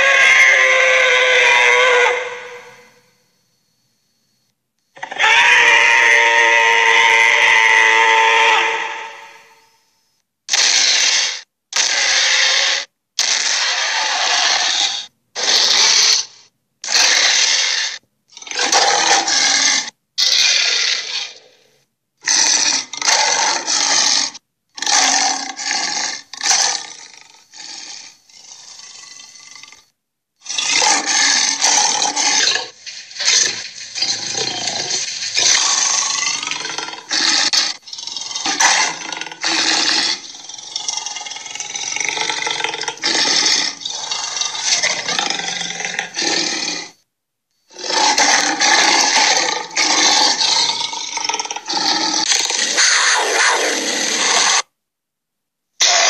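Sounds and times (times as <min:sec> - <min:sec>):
creature roars and growls: 0:00.0 - 0:02.9, 0:05.0 - 0:09.6, 0:10.5 - 0:21.6, 0:22.2 - 0:47.0, 0:47.7 - 0:54.7, 0:55.8 - 0:56.0.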